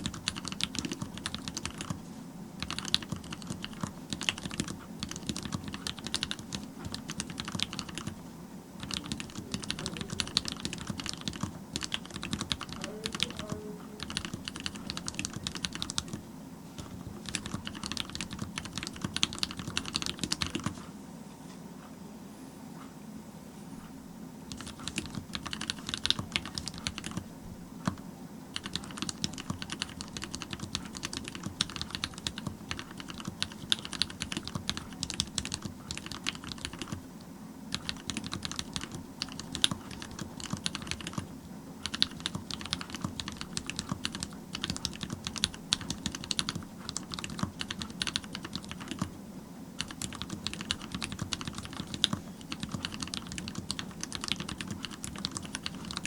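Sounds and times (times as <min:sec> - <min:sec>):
fast mechanical keyboard typing: 0:00.0 - 0:02.0, 0:02.6 - 0:08.2, 0:08.8 - 0:16.2, 0:16.8 - 0:20.9, 0:24.5 - 0:37.1, 0:37.7 - 0:49.2, 0:49.8 - 0:56.0.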